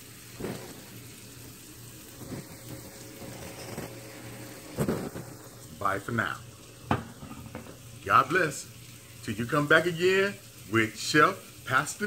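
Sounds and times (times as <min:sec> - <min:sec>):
low hum and faint hiss: 0:00.0 - 0:12.0.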